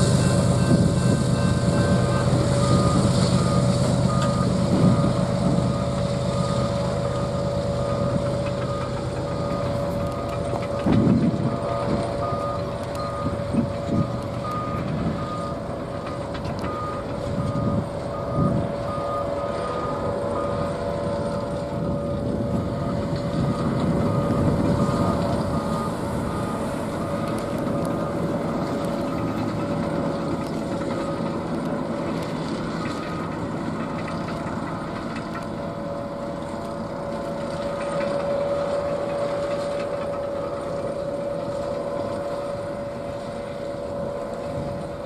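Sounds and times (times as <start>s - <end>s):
crossing bell ringing: 0.0s - 45.0s
freight train rumbling: 0.0s - 45.0s.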